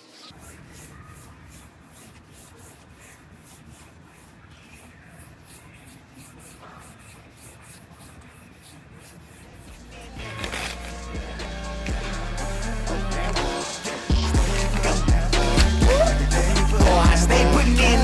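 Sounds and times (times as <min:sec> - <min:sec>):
sanding pad scrubbing metal: 0:00.3 - 0:18.0.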